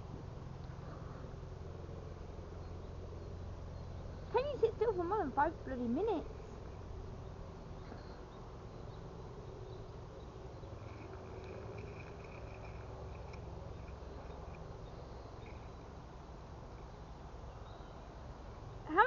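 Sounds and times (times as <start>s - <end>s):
faint high chirping: 2.5s - 18.2s.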